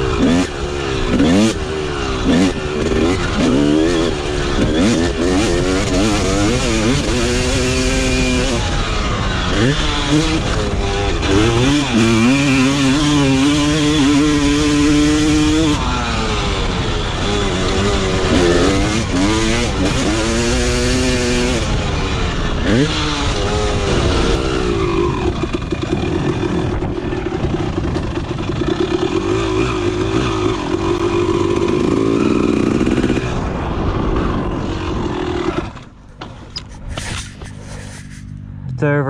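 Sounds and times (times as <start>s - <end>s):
motorbike engine revving: 0.0s - 39.0s.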